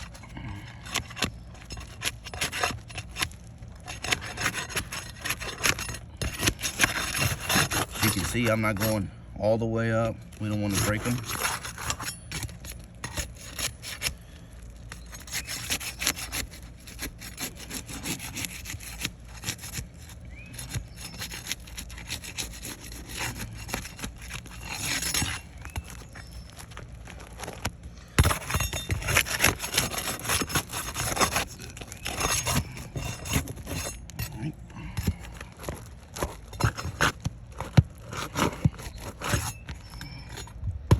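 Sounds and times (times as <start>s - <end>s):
roof shingles scraping and crackling: 0.0s - 9.1s, 9.8s - 40.6s.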